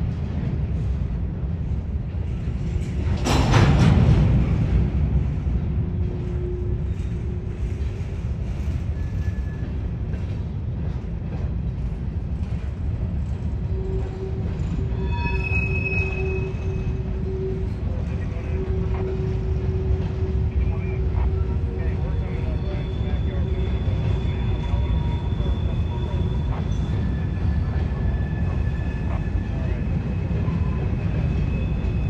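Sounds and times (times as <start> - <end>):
train rumbling past: 0.0 - 32.0.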